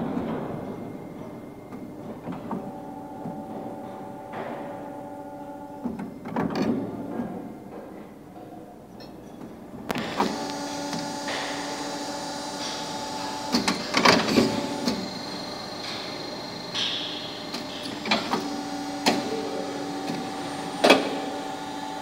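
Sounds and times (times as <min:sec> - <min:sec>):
machine drives humming: 0:00.0 - 0:08.3, 0:09.4 - 0:22.0.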